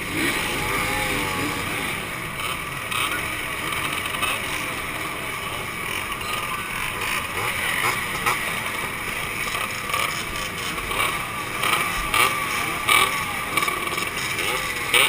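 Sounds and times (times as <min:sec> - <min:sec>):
two-stroke motorcycle engines revving: 0:00.0 - 0:15.0.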